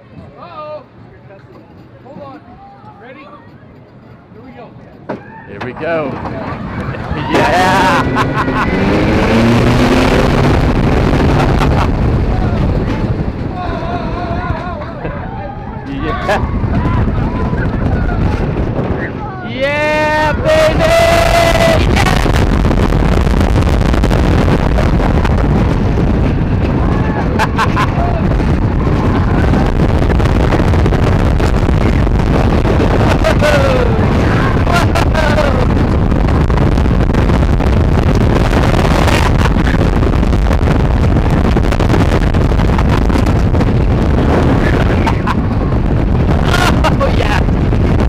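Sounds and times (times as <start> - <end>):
wind buffeting microphone: 0.0 - 48.0
roller coaster wheels clattering: 1.0 - 48.0.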